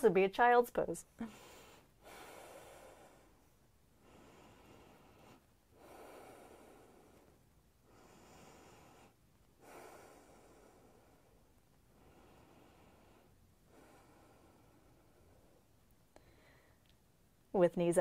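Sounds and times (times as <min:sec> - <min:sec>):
woman breathing softly: 0:01.2 - 0:17.0.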